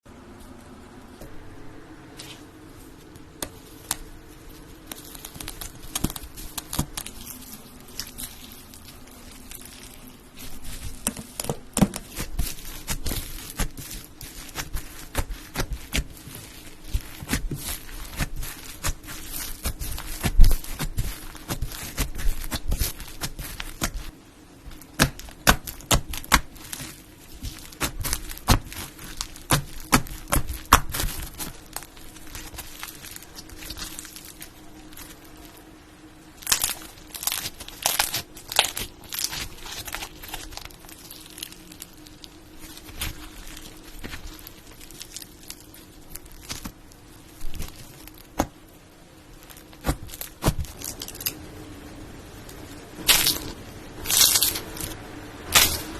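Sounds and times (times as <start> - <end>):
faint steady hum: 0.0 - 55.9
hands squishing slime: 3.3 - 35.5, 36.4 - 48.6, 49.4 - 51.3.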